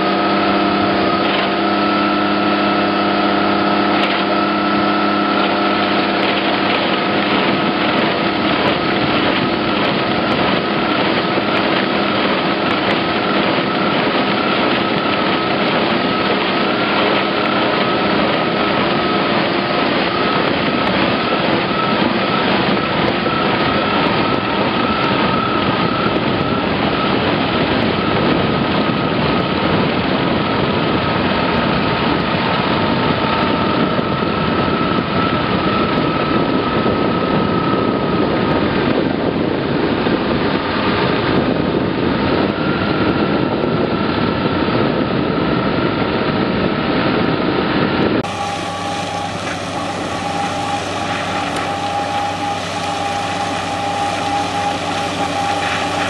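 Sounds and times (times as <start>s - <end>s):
ditch-cleaning rotor churning mud: 0.0s - 56.0s
tractor engine hum: 0.0s - 56.0s.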